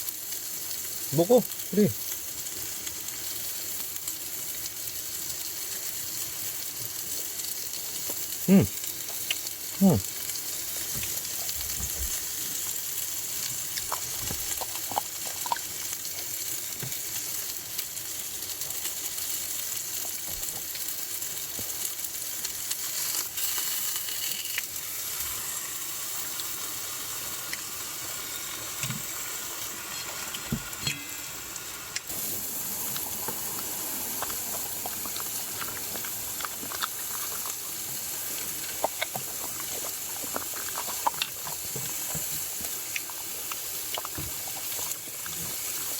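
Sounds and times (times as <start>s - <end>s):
food sizzling in a frying pan: 0.0s - 45.9s.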